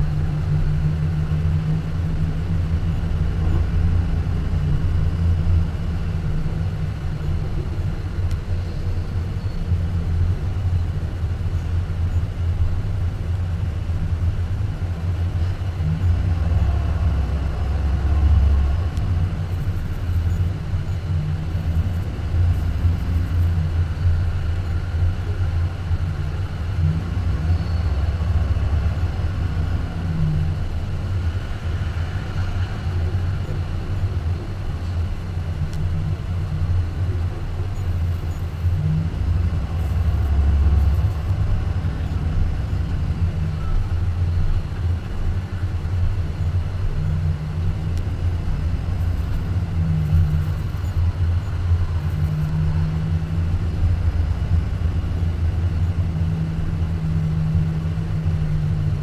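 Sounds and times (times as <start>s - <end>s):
car exhaust rumble: 0.0s - 59.0s.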